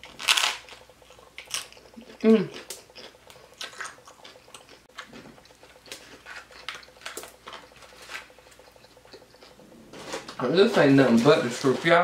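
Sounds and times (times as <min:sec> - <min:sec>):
chewing crunchy pork rinds: 0:00.0 - 0:12.0.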